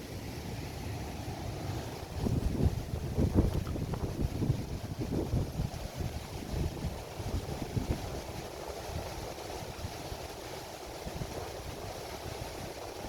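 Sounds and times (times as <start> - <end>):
waves on sandy beach: 0.0 - 13.0
wind buffeting microphone: 1.9 - 13.0.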